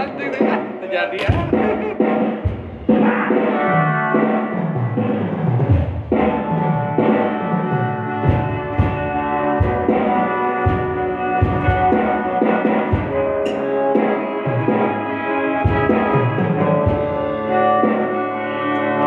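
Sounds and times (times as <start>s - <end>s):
drum hits: 0.0s - 18.2s
band playing sustained chords: 0.0s - 19.0s.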